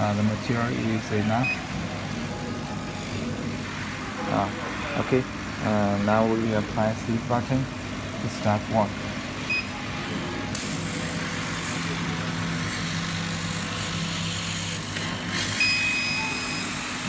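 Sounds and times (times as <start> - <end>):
laser cutting machine hum: 0.0 - 17.0.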